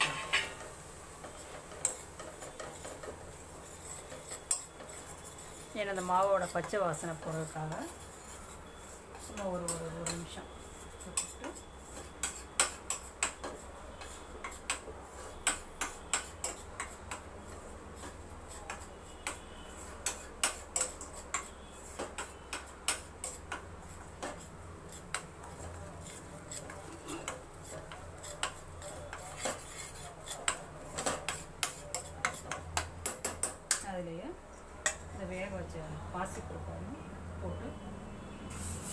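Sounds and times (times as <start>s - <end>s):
spoon scraping a metal pan: 0.0s - 33.8s, 38.5s - 38.9s.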